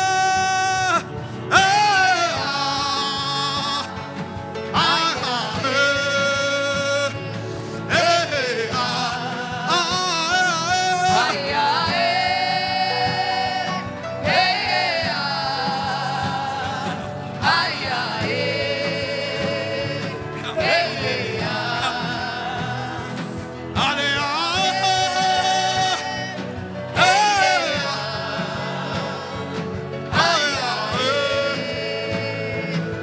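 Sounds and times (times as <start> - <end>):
gospel backing music: 0.0 - 33.0
person singing with vibrato: 0.0 - 33.0.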